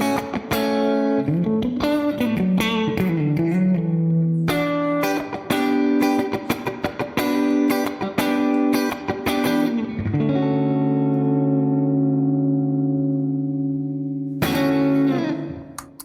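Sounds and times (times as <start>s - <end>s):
electric guitar strumming chords: 0.0s - 16.0s.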